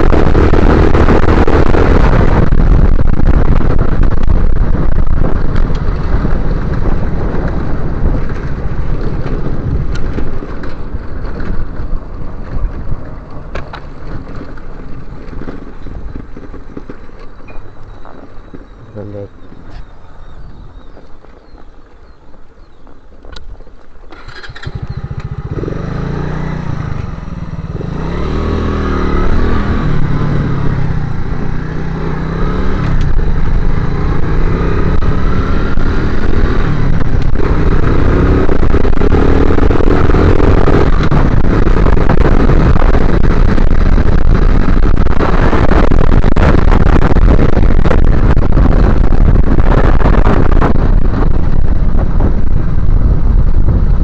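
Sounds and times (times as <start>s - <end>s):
motorcycle engine revving: 0.0s - 22.2s, 24.1s - 54.0s.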